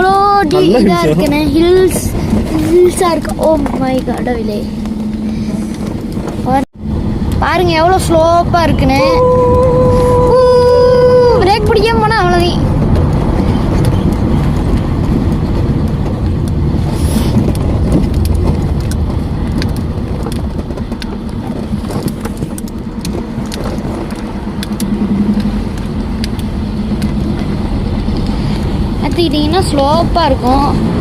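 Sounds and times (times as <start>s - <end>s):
car driving low rumble: 0.0s - 31.0s.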